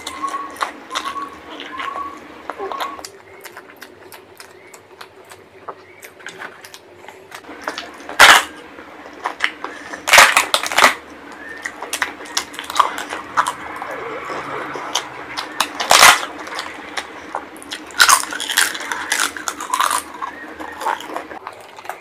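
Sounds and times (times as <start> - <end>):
close-miked chewing: 0.0 - 22.0
crisp papadum crackling: 0.0 - 22.0.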